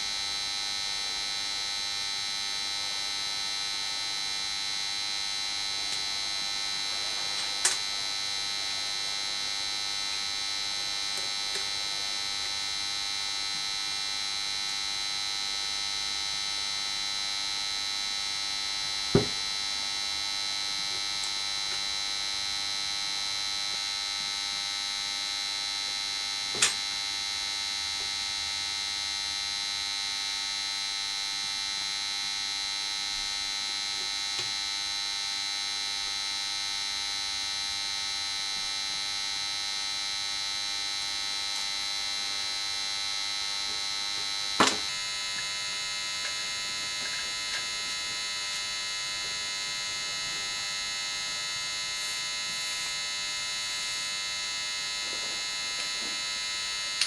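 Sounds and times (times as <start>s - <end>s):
steady electrical whine: 0.0s - 57.0s.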